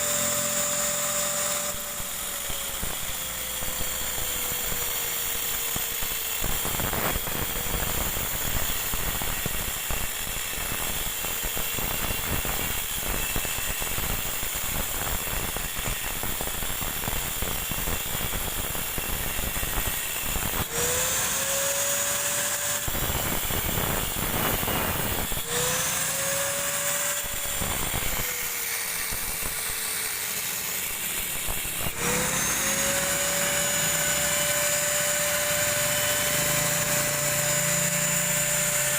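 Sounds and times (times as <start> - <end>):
power tool motor whine: 0.0 - 38.9.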